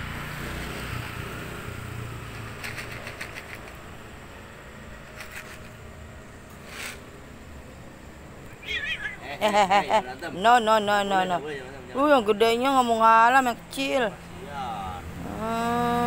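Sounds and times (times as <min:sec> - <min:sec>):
distant traffic rumble: 0:00.0 - 0:16.0.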